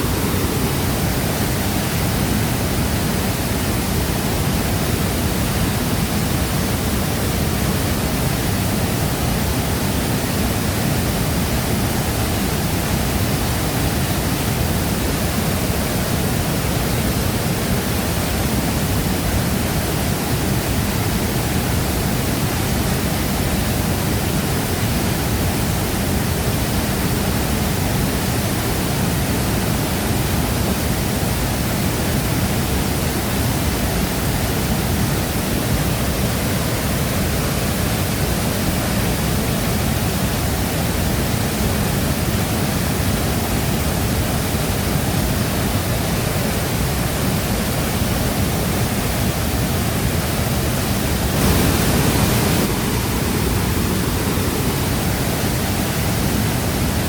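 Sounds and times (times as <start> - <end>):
waterfall crashing: 0.0 - 57.0.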